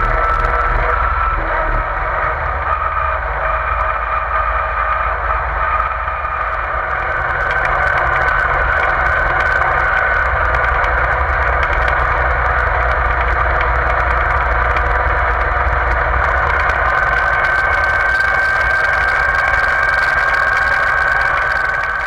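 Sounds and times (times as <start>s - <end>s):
high whine: 0.0s - 22.0s
tractor engine drone: 0.0s - 22.0s.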